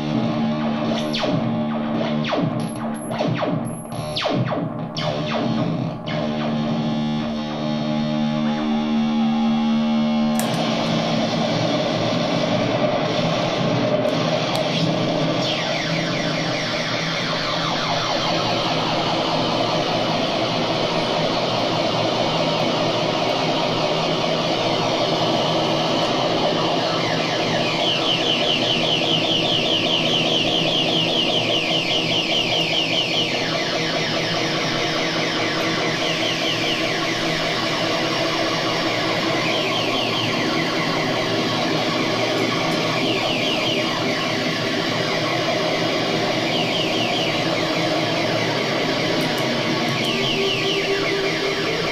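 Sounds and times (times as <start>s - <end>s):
electronic drone: 0.0s - 51.9s
siren-like electronic chirping: 0.0s - 51.9s.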